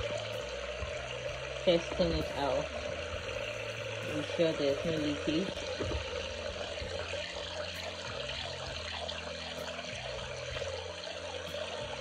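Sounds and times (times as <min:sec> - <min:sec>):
water pouring into a bucket: 0:00.0 - 0:12.0.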